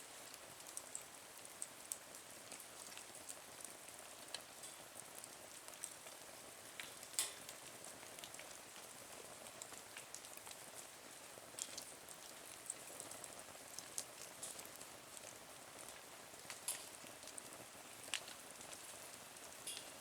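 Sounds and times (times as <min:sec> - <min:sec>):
wood fire crackling: 0:00.2 - 0:20.0.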